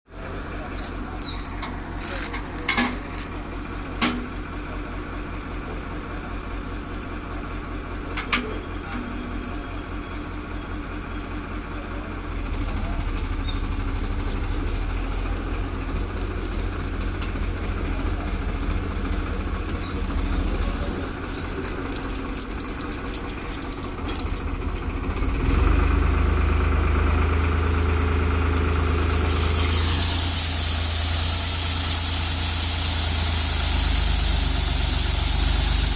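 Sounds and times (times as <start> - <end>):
tractor engine running: 0.2 - 9.2, 10.4 - 35.9.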